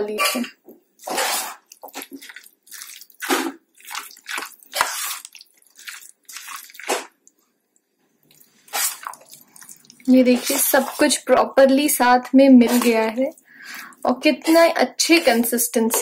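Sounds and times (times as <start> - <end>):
spoon stirring in steel pot: 1.0 - 7.5, 8.3 - 16.0.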